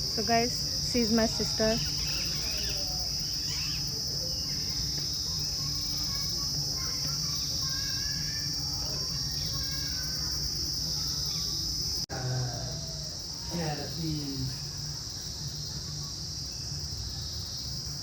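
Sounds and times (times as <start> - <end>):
faint short insect calls: 0.0 - 18.0
insects trilling: 0.0 - 18.0.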